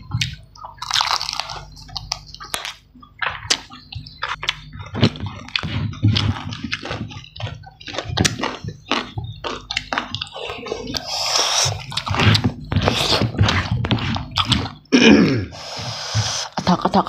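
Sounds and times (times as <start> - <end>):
mouth smacking and chewing: 0.0 - 14.9.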